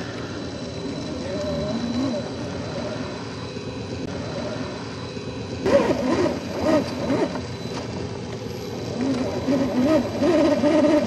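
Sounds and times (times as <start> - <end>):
rc car motor whining: 0.0 - 11.0.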